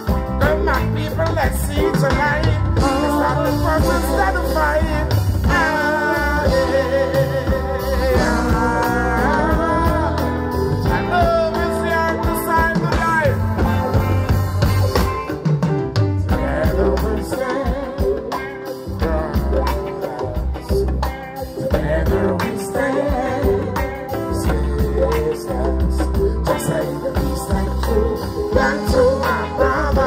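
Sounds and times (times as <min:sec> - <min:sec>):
man singing: 0:00.0 - 0:15.1, 0:16.3 - 0:30.0
live reggae band: 0:00.0 - 0:30.0.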